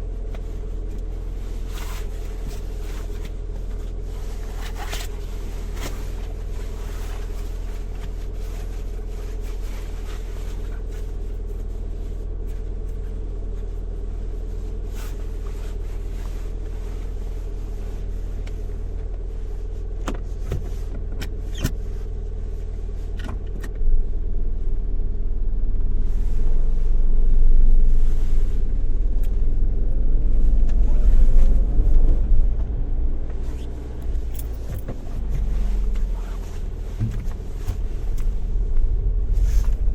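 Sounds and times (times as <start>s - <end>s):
car engine from inside cabin: 0.0s - 39.9s.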